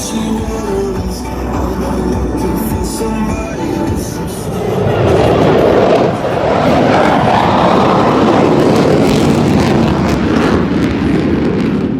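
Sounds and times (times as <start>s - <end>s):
aircraft engine roaring past: 0.0s - 11.9s.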